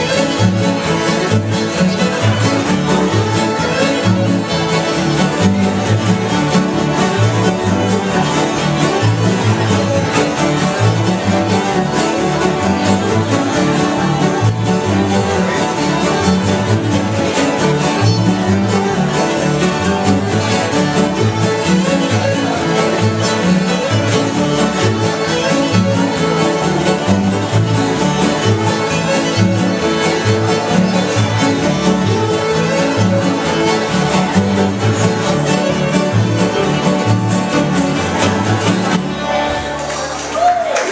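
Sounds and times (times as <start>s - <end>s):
strummed acoustic guitars: 0.0s - 40.3s
upright bass: 0.0s - 40.7s
fiddle: 0.0s - 40.8s
mandolin: 0.0s - 40.9s.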